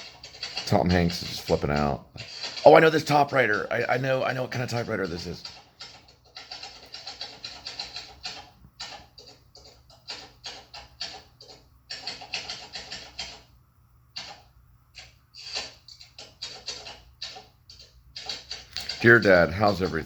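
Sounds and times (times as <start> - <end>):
typewriter keys clacking: 0.0 - 13.5, 14.2 - 20.0.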